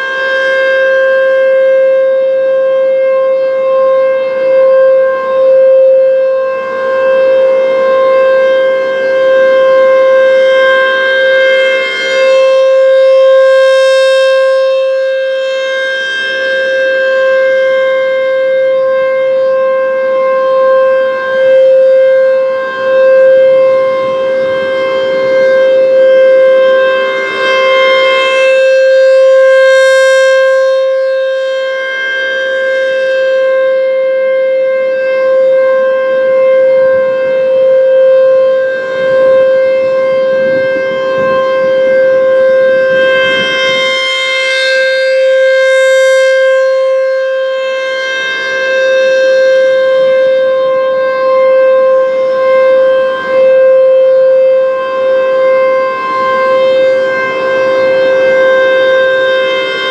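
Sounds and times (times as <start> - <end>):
rotating tornado siren tone: 0.0 - 59.9.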